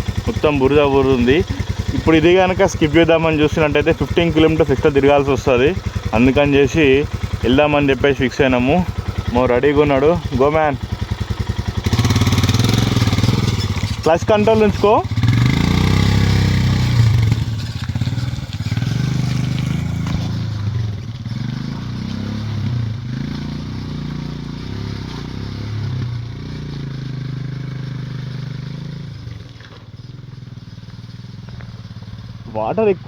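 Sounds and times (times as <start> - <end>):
motorcycle engine in mud: 0.0 - 33.0.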